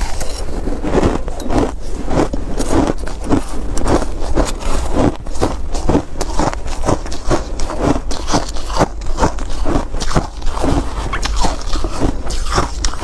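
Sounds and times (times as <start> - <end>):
shaved ice crunching: 0.0 - 13.0.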